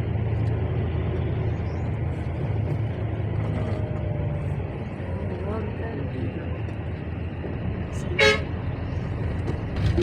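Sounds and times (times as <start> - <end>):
motor vehicle engine rumble: 0.0 - 10.0
road noise: 0.0 - 10.0.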